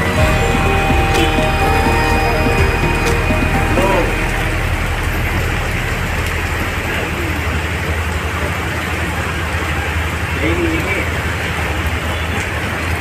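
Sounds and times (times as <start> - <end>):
passing traffic rumble: 0.0 - 12.9
heavy rain on flooded road: 0.0 - 13.0.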